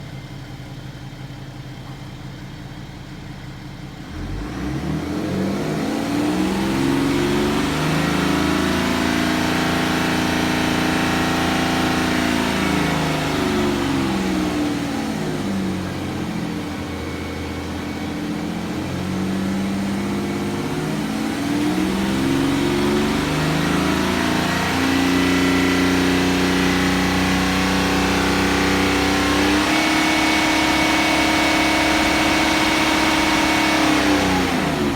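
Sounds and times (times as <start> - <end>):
diesel engine revving: 4.1 - 34.9.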